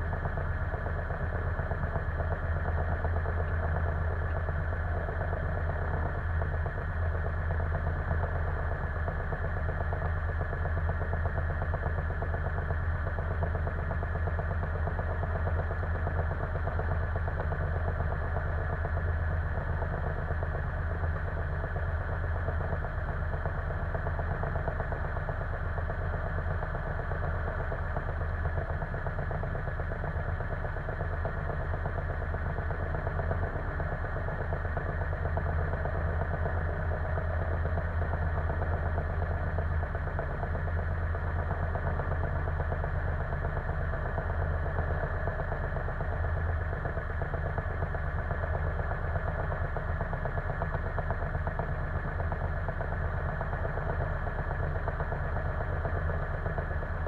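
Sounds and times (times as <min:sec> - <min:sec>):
light aircraft engine idling: 0:00.0 - 0:57.0.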